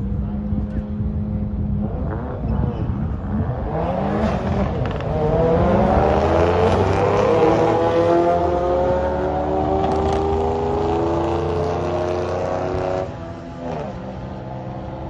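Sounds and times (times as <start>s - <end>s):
cars accelerating hard: 0.0s - 15.0s.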